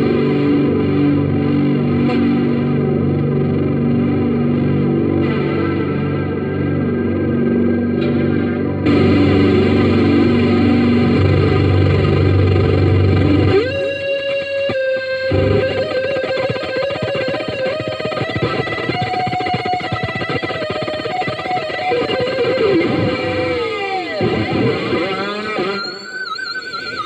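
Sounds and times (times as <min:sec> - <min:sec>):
distorted electric guitar chord: 0:00.0 - 0:27.0
electric guitar lead note bent: 0:00.0 - 0:27.0.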